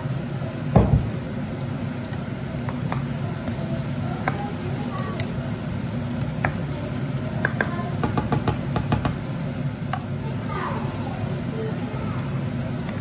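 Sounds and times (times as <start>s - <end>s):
onions frying: 0.0s - 13.0s.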